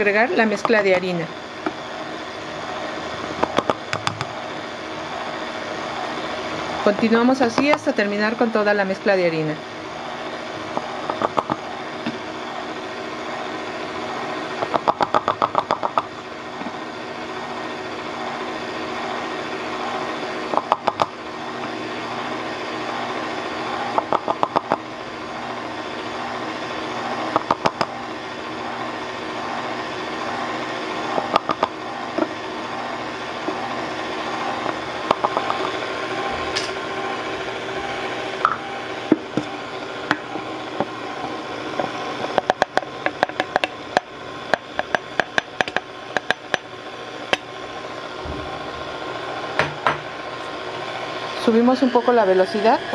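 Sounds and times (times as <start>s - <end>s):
stand mixer running: 0.0s - 52.9s.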